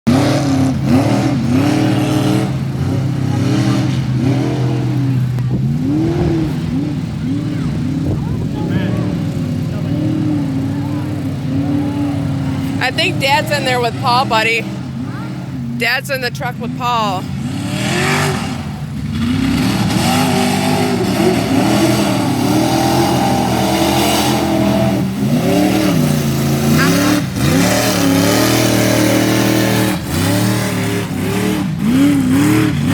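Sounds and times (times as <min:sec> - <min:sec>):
truck engine revving: 0:00.0 - 0:32.9
low engine drone: 0:00.1 - 0:32.9.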